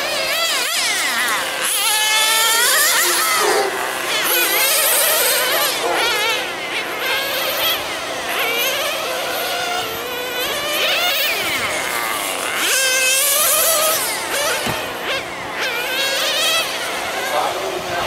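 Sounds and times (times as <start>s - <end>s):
rc car engines buzzing: 0.0s - 18.0s.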